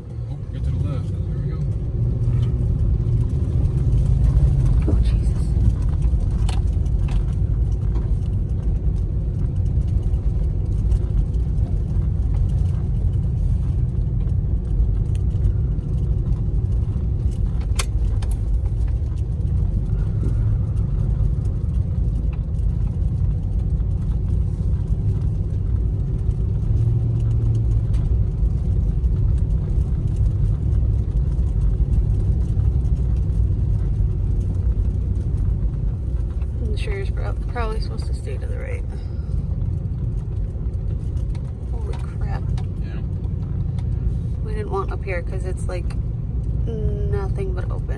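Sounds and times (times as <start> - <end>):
car engine and tyres rumbling: 0.0 - 47.9
sharp clicks and rattles: 0.0 - 47.9.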